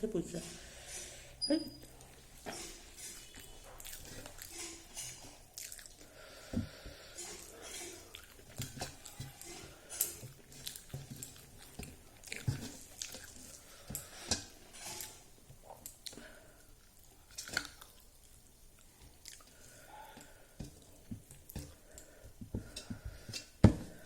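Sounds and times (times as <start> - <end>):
person chewing food: 0.6 - 24.0.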